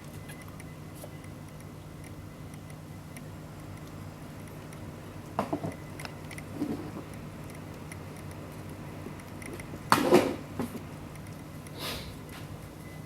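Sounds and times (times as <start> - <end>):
faint steady ticking: 0.0 - 9.9, 10.9 - 11.8.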